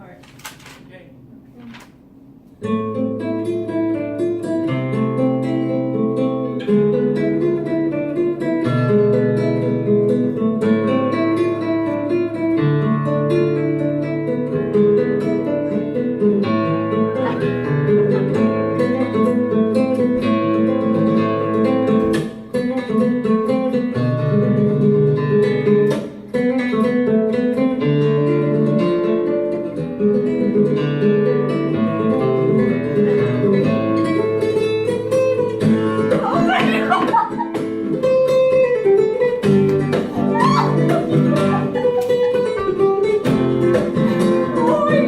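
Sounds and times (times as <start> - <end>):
acoustic guitar strumming: 2.0 - 45.0.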